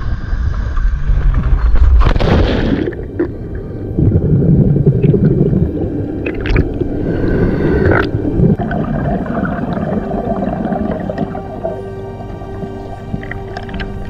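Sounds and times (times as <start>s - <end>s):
underwater rushing and bubbling: 0.0s - 14.0s.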